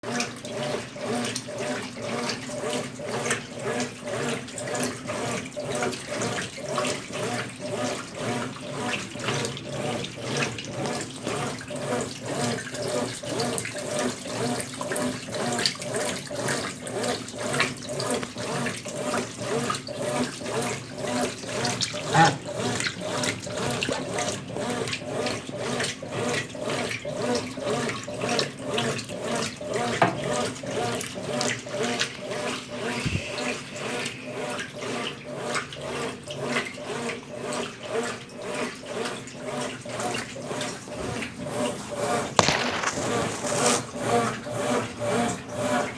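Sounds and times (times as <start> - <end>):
washing machine sloshing: 0.0 - 42.4, 43.3 - 45.9.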